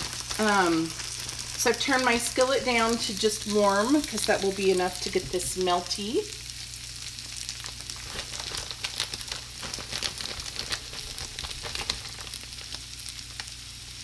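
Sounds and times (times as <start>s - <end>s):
food sizzling in skillet: 0.0s - 14.0s
small crackles: 0.0s - 14.0s.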